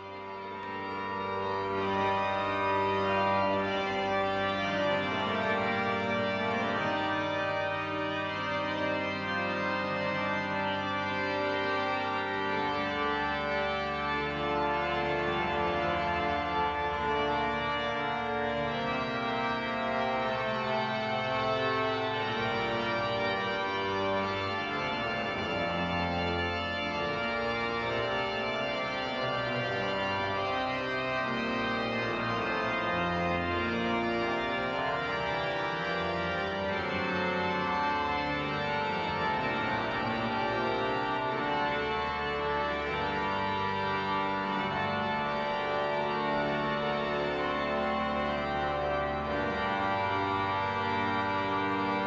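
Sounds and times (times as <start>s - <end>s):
pipe organ playing chords: 0.0s - 52.0s.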